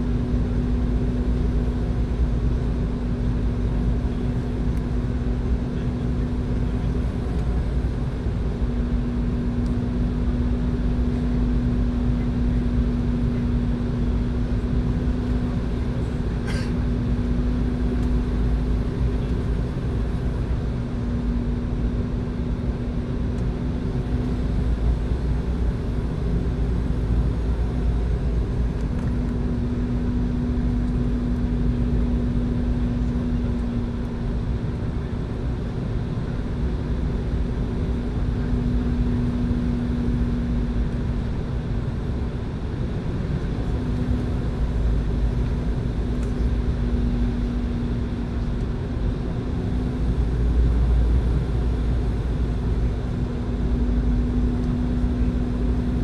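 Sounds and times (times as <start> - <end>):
airliner cabin airflow and engine drone: 0.0 - 56.0.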